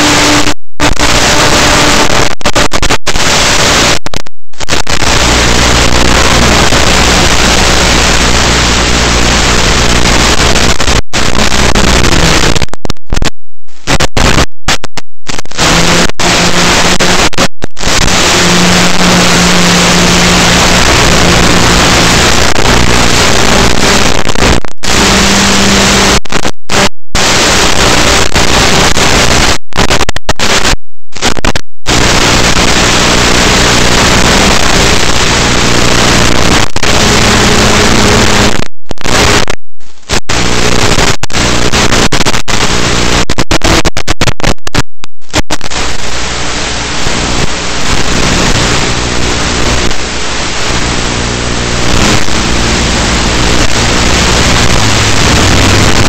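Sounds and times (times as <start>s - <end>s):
static hiss: 0.0s - 56.0s.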